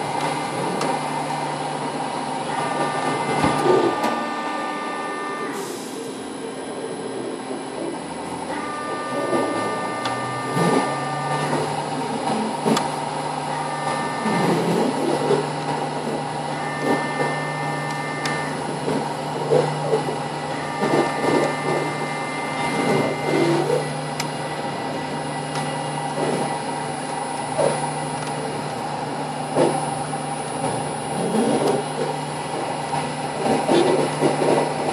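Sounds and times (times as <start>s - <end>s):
machinery humming: 0.0s - 34.9s
high whine: 1.9s - 34.6s.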